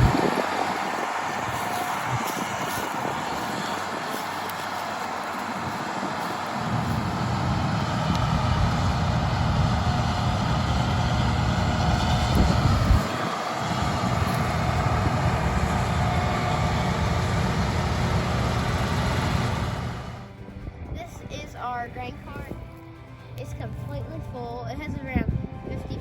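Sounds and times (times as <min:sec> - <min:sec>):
combine harvester rumble: 0:00.0 - 0:26.0.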